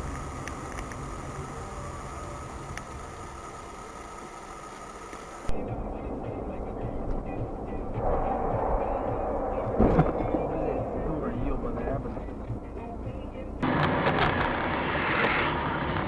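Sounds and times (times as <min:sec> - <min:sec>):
vehicle and road noise: 0:00.0 - 0:16.0.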